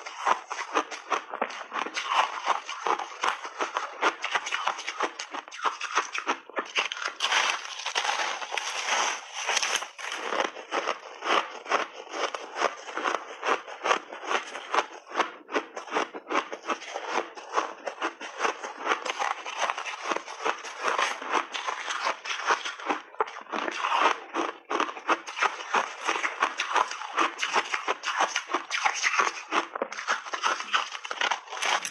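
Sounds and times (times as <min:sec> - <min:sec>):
ice and berries crunching: 0:00.0 - 0:31.9.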